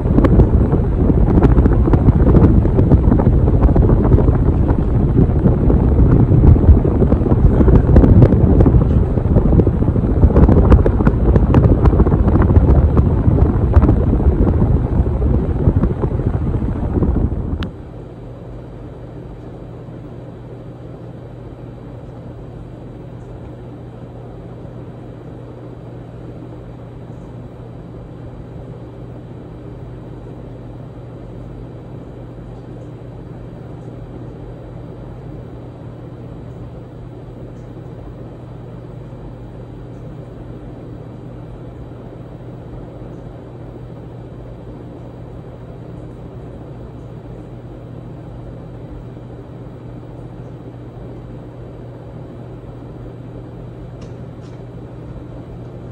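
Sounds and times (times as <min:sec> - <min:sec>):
ceiling fan running: 0:00.0 - 0:55.9.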